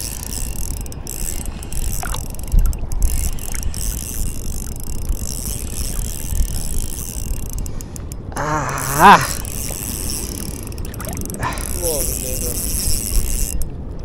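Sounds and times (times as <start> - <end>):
wind buffeting microphone: 0.0 - 8.4, 9.3 - 14.0.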